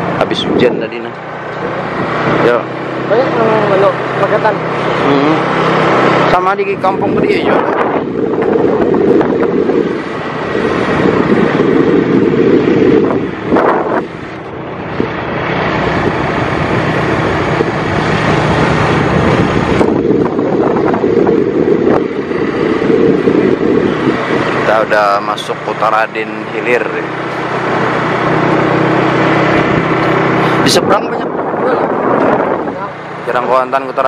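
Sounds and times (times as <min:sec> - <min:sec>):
vehicle running noise: 0:00.0 - 0:34.0
wind rushing over microphone: 0:00.0 - 0:34.0.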